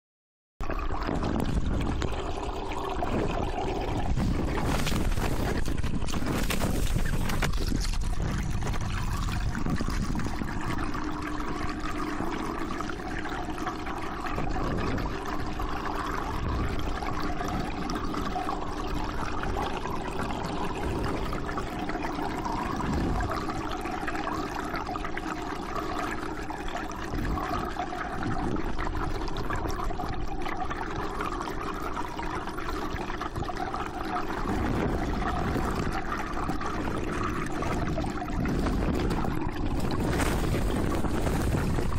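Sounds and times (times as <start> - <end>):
faint steady hum: 0.6 - 41.9
water trickling underwater: 0.6 - 41.9.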